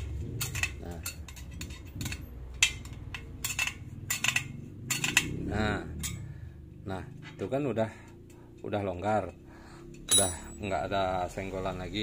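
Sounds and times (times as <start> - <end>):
wrench clinking on metal spokes: 0.0 - 6.3, 7.2 - 11.0.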